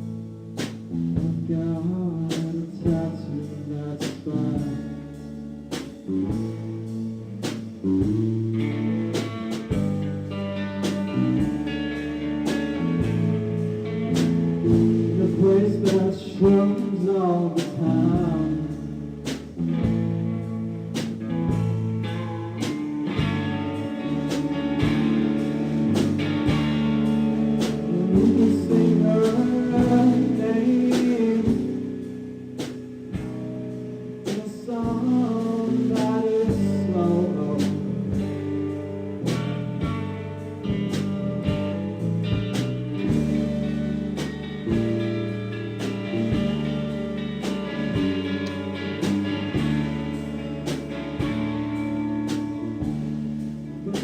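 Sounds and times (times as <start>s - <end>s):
live band with guitar: 0.0s - 54.0s.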